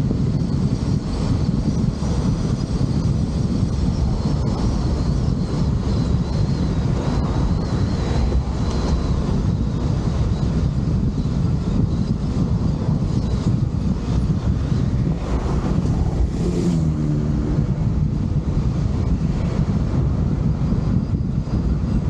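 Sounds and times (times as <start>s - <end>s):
low vehicle rumble: 0.0s - 22.0s
wind buffeting microphone: 0.0s - 22.0s.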